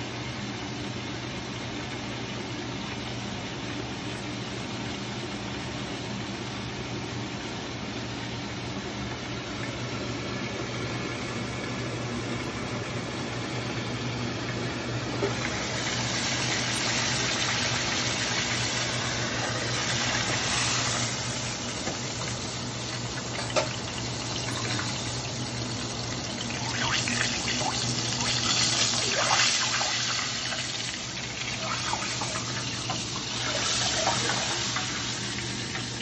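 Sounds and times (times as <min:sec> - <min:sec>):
deep fryer hum: 0:00.0 - 0:36.0
food sizzling in hot oil: 0:00.1 - 0:36.0.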